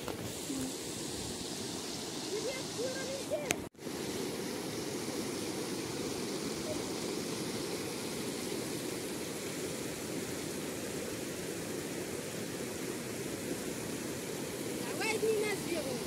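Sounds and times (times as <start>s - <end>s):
floodwater rushing over stones: 0.0s - 16.0s.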